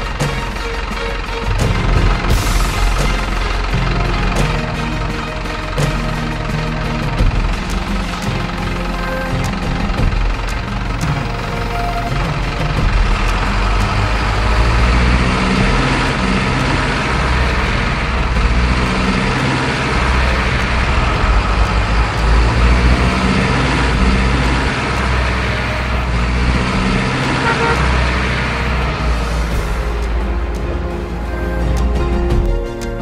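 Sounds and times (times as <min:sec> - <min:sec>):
truck engine rumbling: 0:00.0 - 0:33.0.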